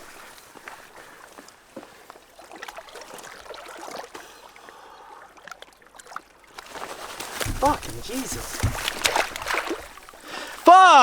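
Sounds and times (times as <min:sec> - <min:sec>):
trickling water: 0:00.0 - 0:11.0
water splashing: 0:02.2 - 0:11.0.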